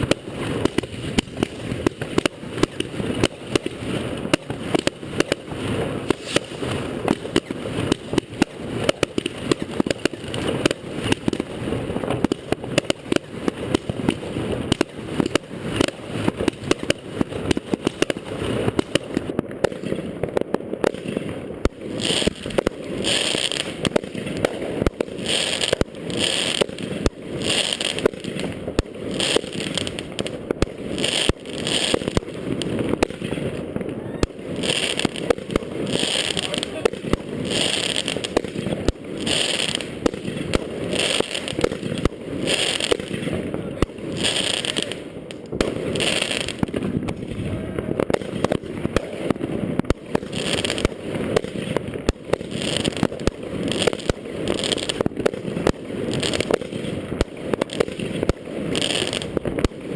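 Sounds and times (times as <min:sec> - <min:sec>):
firework hisses: 0:00.0 - 0:59.9.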